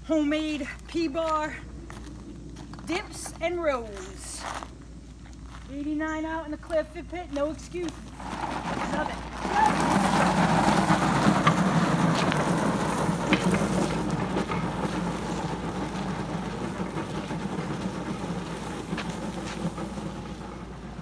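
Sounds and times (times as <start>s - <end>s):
sled scraping over gravel: 0.0s - 21.0s.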